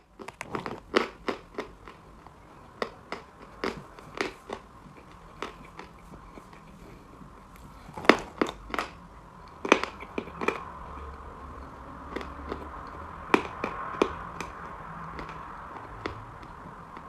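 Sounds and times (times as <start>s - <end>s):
chalk being bitten and chewed: 0.1s - 17.0s.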